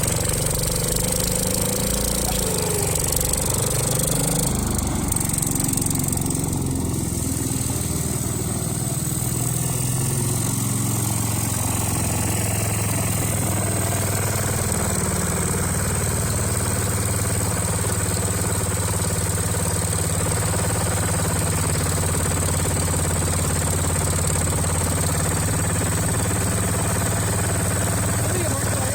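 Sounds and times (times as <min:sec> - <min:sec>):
tractor engine fast idle: 0:00.0 - 0:28.9.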